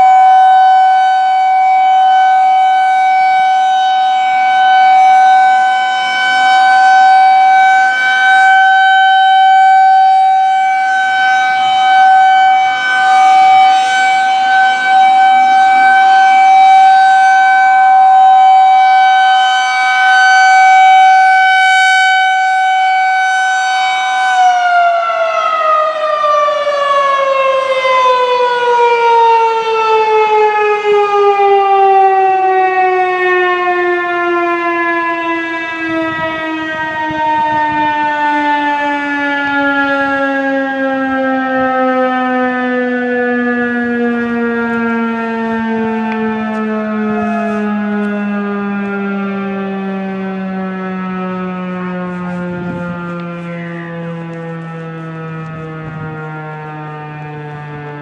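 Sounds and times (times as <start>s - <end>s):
rotating warning siren: 0.0s - 58.0s.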